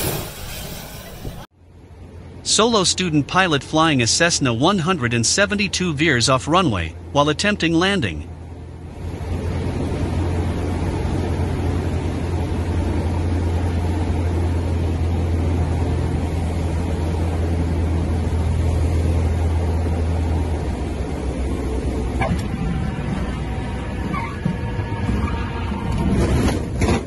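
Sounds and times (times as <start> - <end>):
plane engine and propeller drone: 0.0 - 27.0.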